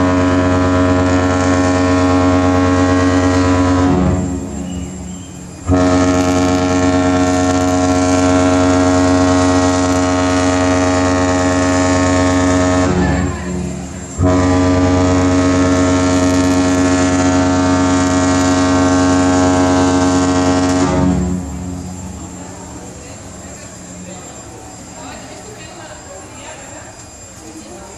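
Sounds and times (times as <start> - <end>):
deep ship horn blasts: 0.0 - 24.0.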